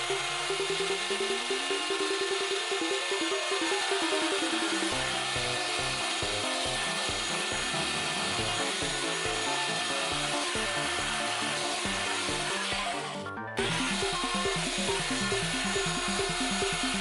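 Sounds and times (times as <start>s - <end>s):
background music: 0.0s - 17.0s
power router cutting wood: 0.0s - 17.0s.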